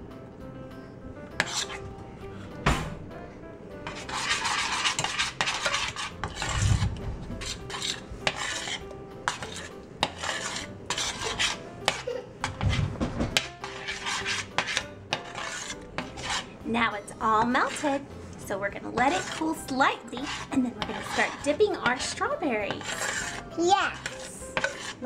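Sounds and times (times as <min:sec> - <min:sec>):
spoon scraping a metal pan: 0:01.4 - 0:02.6, 0:03.8 - 0:25.0.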